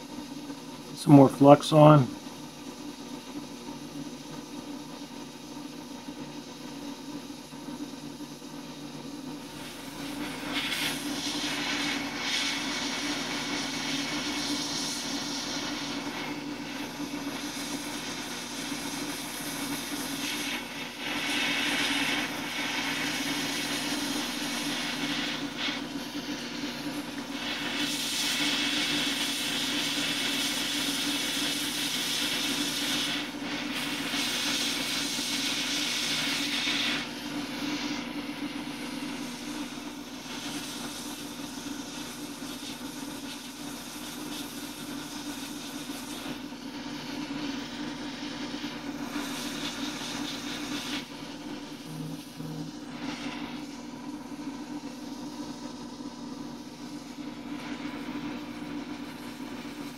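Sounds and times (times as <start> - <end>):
fan motor hum: 0.0 - 59.9
hot air hissing: 0.9 - 2.1, 9.2 - 59.9.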